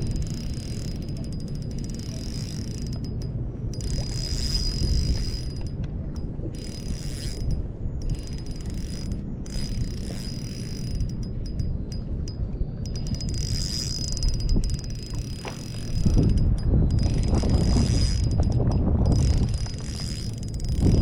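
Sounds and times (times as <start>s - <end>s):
fishing reel whirring click: 0.0s - 21.0s
low wind rumble: 0.0s - 21.0s.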